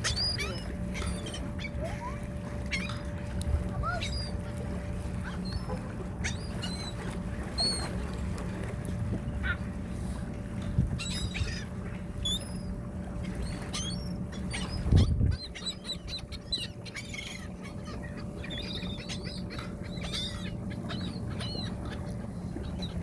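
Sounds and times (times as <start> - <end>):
ducks and birds calling: 0.0 - 8.4, 9.1 - 23.0
steady low hum: 0.0 - 23.0.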